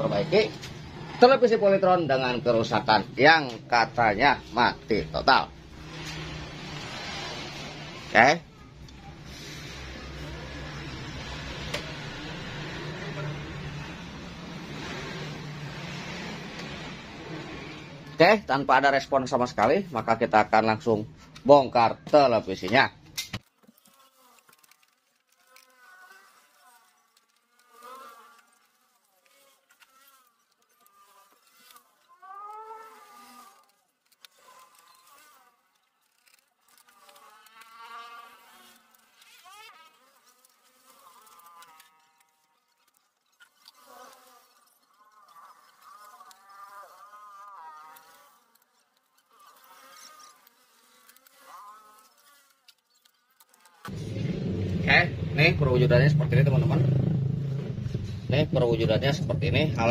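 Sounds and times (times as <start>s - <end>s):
insect buzzing: 0.0s - 21.0s, 23.4s - 54.9s.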